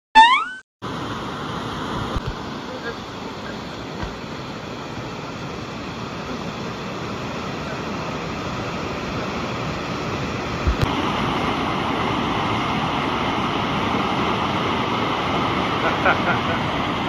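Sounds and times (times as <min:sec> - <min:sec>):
wave machine water rush: 0:00.2 - 0:17.0
rushing churning water: 0:00.9 - 0:17.0.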